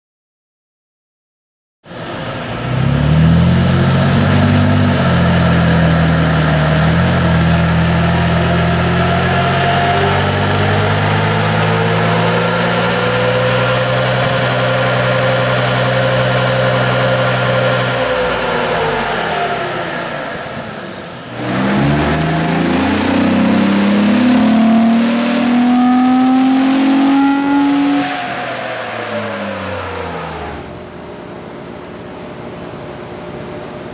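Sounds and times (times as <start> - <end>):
car engine running hard: 1.9 - 33.9
dyno roller whine: 1.9 - 33.9.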